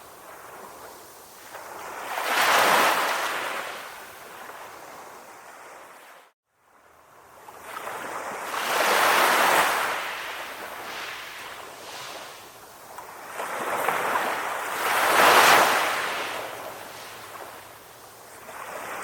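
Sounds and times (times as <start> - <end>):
ocean waves washing ashore: 0.0 - 19.0.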